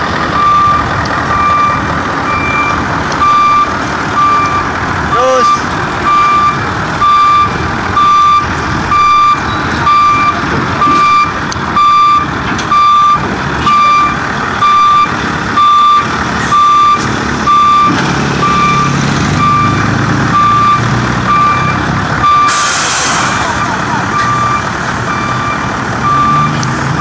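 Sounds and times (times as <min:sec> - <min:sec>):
diesel truck engine running: 0:00.0 - 0:27.0
truck reversing alarm beeps: 0:00.0 - 0:27.0.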